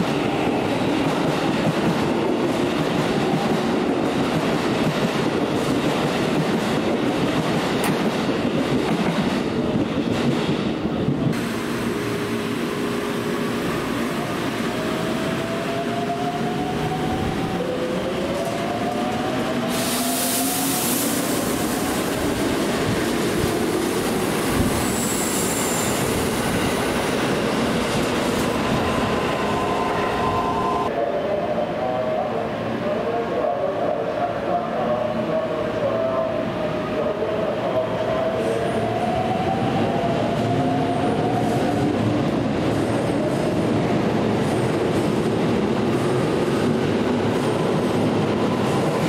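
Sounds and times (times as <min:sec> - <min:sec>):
train running and wheel noise: 0:00.0 - 0:31.0, 0:31.8 - 0:49.0
steady train whine: 0:00.0 - 0:49.0.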